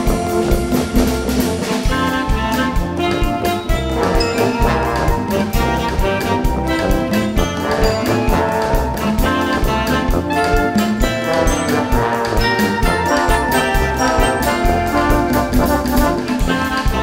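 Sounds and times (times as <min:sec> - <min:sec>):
brass chords: 0:00.0 - 0:17.0
steady drum beat: 0:00.0 - 0:17.0.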